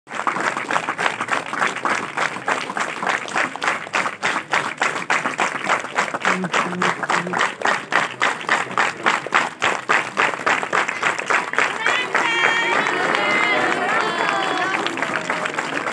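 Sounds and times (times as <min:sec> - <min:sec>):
crowd clapping in unison: 0:00.1 - 0:15.9.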